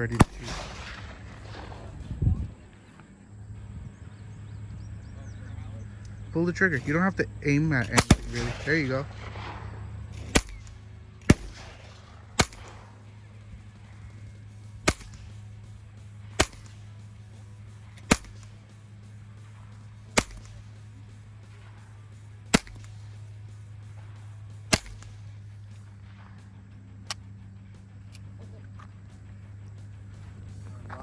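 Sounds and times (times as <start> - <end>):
rifle shots: 0.0 - 3.2, 5.9 - 28.3.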